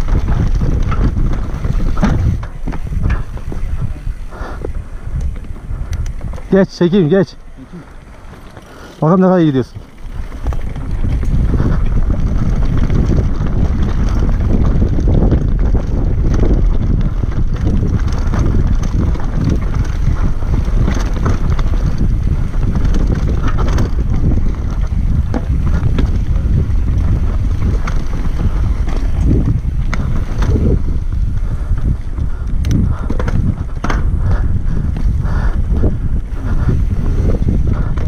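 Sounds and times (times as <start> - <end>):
bike rattling and knocking: 0.0 - 38.0
tyres rumbling over loose stones: 0.0 - 38.0
wind buffeting microphone: 0.0 - 38.0.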